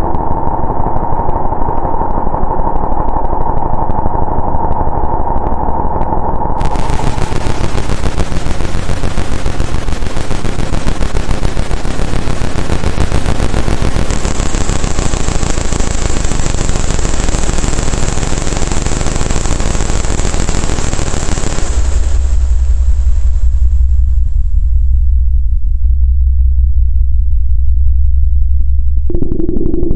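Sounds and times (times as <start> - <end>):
deep bass rumble: 0.0 - 29.9
harsh synthesizer noise drone: 0.0 - 29.9
thin high whine: 0.0 - 29.9.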